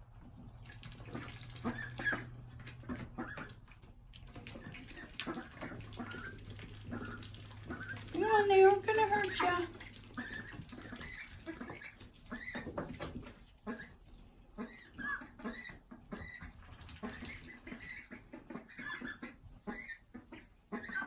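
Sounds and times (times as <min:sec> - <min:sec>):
ducklings peeping: 0:00.6 - 0:21.0.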